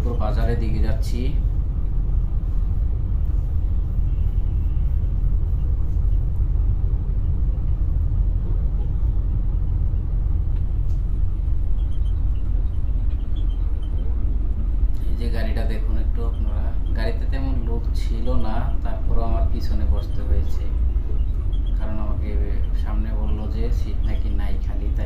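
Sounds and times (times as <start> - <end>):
coach interior rumble: 0.0 - 25.0.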